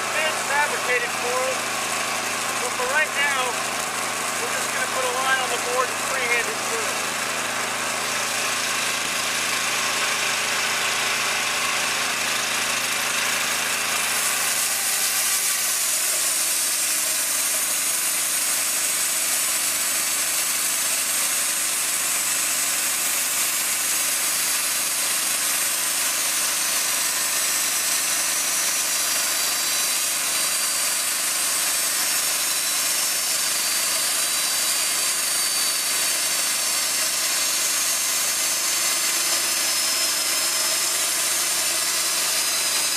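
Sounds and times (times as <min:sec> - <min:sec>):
bandsaw running: 0:00.0 - 0:42.9
saw blade cutting wood: 0:00.0 - 0:42.9.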